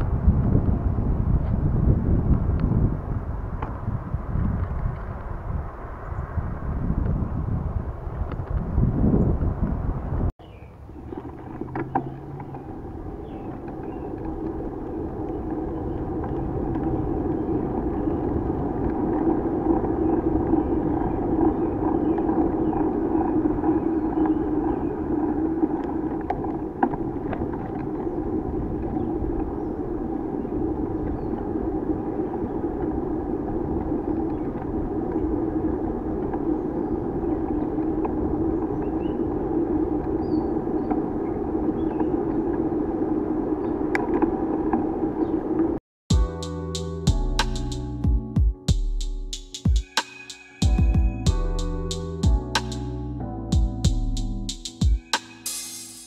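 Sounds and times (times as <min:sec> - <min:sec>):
bicycle rolling hum: 0:00.0 - 0:48.2
muffled wind rumble: 0:00.0 - 0:55.2.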